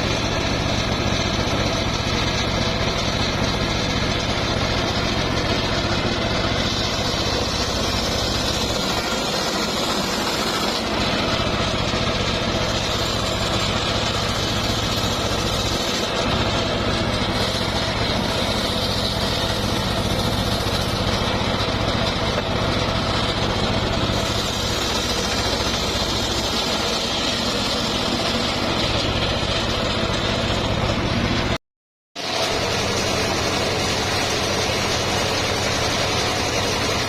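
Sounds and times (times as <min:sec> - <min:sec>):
sawmill engine running: 0:00.0 - 0:31.6, 0:32.2 - 0:37.0.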